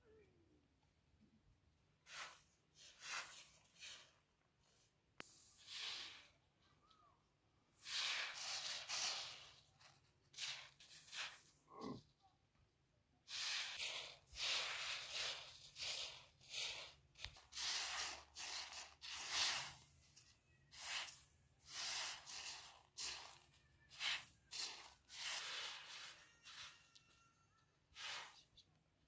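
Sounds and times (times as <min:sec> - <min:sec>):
grain swishing on plastic sheet: 0:02.0 - 0:07.1, 0:07.7 - 0:11.6, 0:13.2 - 0:28.8.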